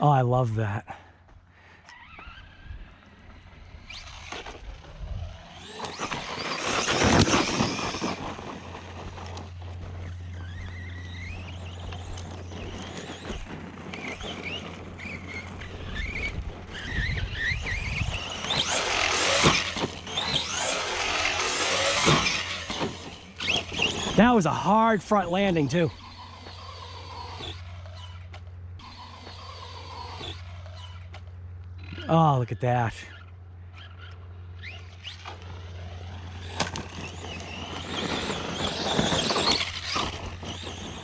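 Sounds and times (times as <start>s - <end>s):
rushes of noise: 1.8s - 31.1s, 33.2s - 41.0s
electric motor whining: 1.8s - 32.3s, 33.1s - 41.0s.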